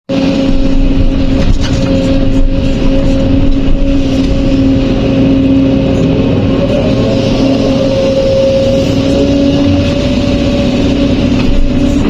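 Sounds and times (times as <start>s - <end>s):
constant whine: 0.1s - 12.0s
diesel machinery running: 0.1s - 12.0s.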